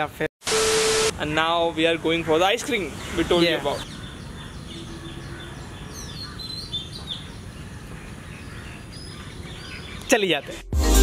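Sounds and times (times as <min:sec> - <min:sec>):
outdoor background noise: 0:00.0 - 0:10.6
birds chirping: 0:01.2 - 0:10.5.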